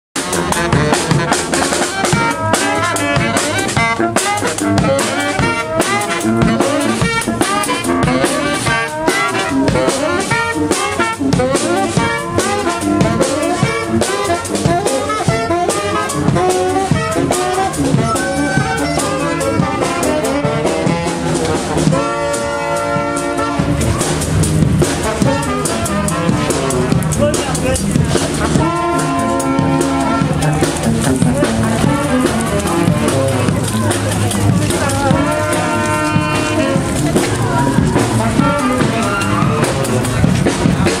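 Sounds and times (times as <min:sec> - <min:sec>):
bass drum and cymbal beat: 0:00.2 - 0:41.0
brass band playing: 0:00.2 - 0:41.0.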